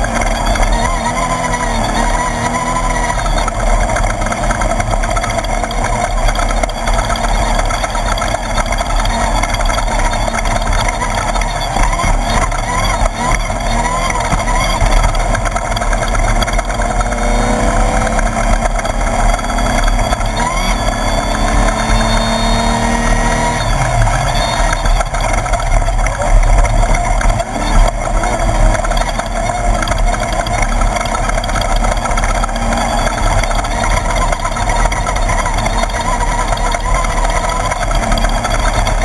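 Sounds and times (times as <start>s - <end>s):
buggy engine running hard: 0.0s - 39.0s.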